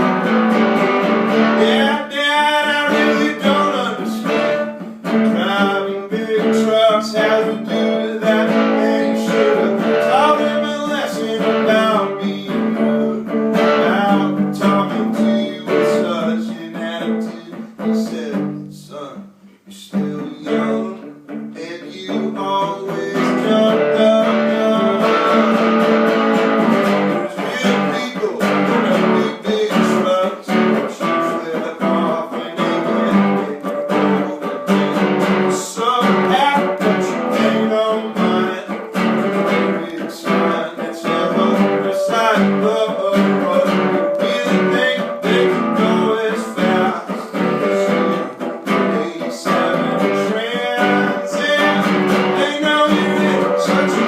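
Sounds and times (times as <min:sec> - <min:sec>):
guitar strumming chords: 0:00.0 - 0:54.0.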